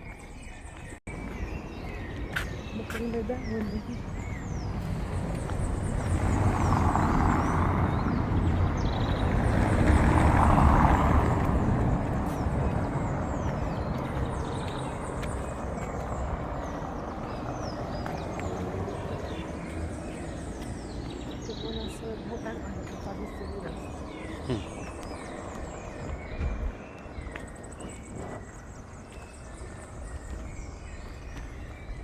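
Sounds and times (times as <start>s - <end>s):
road traffic passing: 0.0s - 32.0s
small birds chirping: 0.0s - 32.0s.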